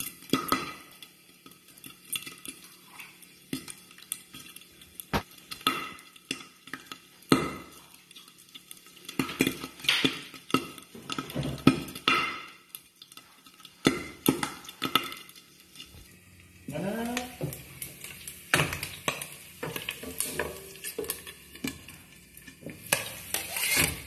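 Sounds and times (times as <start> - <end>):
pork sizzling in a pan: 0.0 - 24.0.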